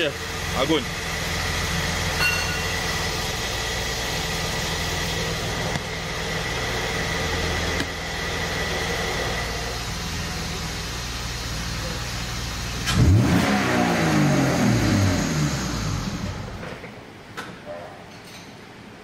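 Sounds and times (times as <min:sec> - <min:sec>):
car engine running steadily: 0:00.0 - 0:17.0.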